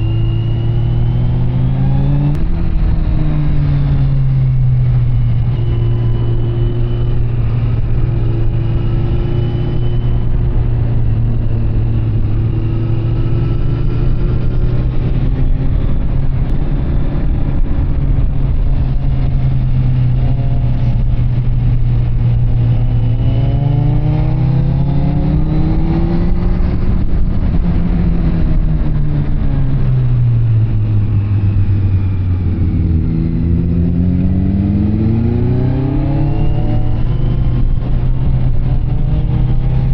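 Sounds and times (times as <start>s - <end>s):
motorcycle engine cruising and revving: 0.0s - 39.9s.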